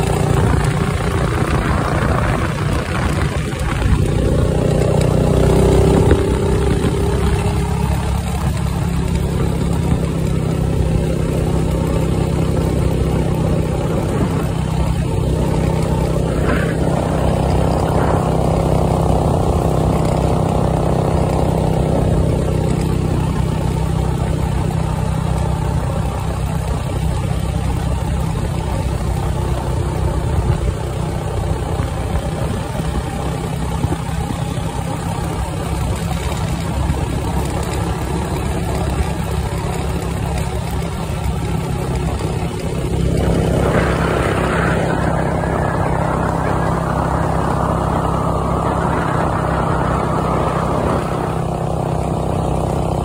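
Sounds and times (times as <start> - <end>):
go-kart engine under throttle: 0.0 - 53.0
road and wind noise: 0.0 - 53.0.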